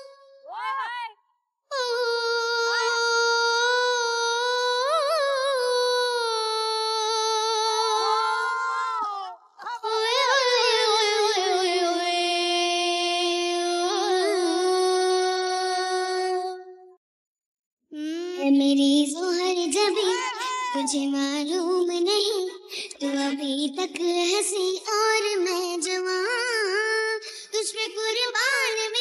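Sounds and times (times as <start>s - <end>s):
child singing without words: 0.0s - 17.0s, 17.9s - 29.0s.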